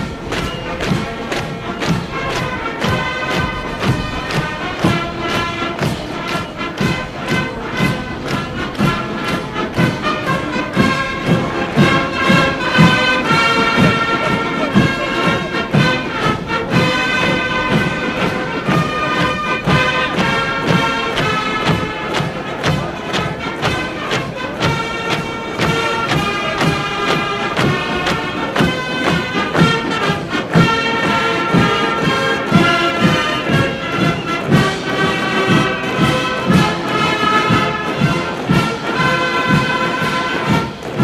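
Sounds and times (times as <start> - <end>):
military band playing a march: 0.0 - 41.0
regular thudding drum beat: 0.0 - 41.0.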